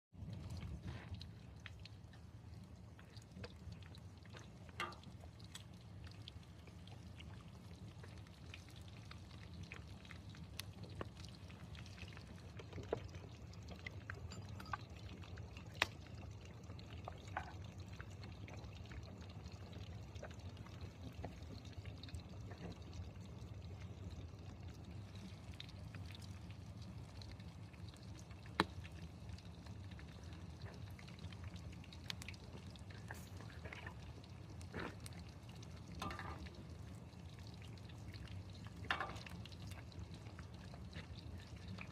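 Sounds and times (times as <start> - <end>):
campfire crackling: 0.3 - 41.9.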